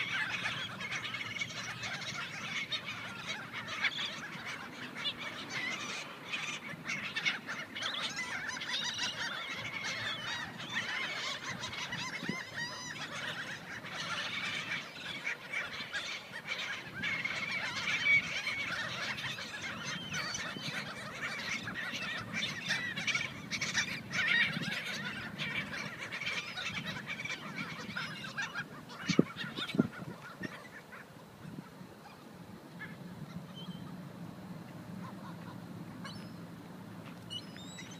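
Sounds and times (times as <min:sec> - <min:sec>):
seagulls squawking: 0:00.0 - 0:32.2, 0:32.8 - 0:34.0, 0:35.0 - 0:36.4, 0:37.3 - 0:37.9.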